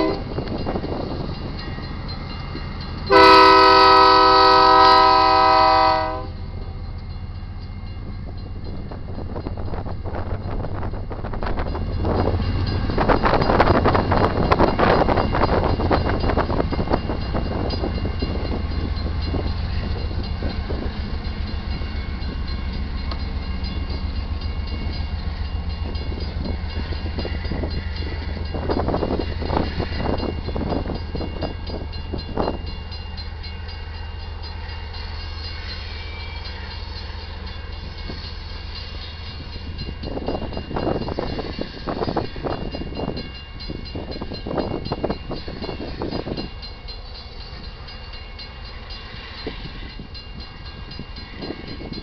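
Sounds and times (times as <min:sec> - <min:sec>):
freight train rumbling: 0:00.0 - 0:52.0
train clanks: 0:00.0 - 0:52.0.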